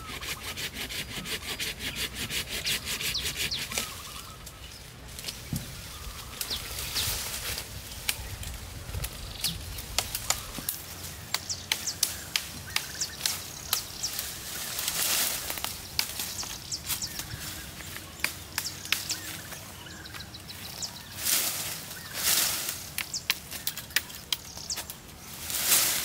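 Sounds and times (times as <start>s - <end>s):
birds chirping: 0.0s - 26.0s
brush rustling: 0.0s - 26.0s
twigs cracking: 3.7s - 26.0s.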